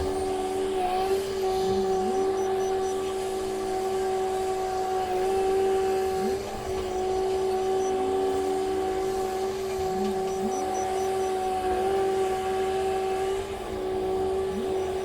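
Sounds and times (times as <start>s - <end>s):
diesel machinery humming: 0.0s - 15.0s.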